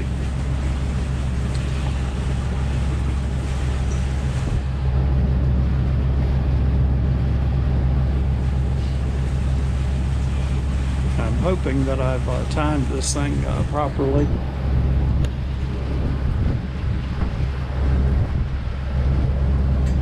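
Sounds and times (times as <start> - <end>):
boat engine droning: 0.0 - 20.0
wind: 0.0 - 20.0.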